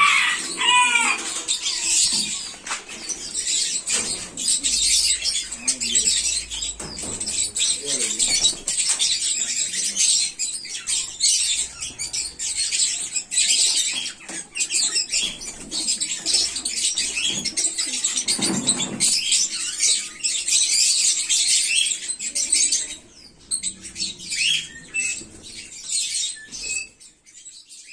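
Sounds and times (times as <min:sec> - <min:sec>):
budgerigars chirping: 0:00.0 - 0:27.9.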